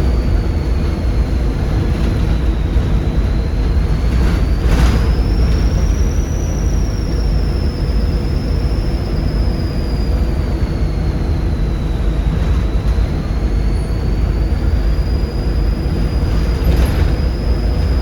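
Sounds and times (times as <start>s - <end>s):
bus diesel engine rumbling: 0.0s - 18.0s
turbocharger whistling: 0.0s - 18.0s.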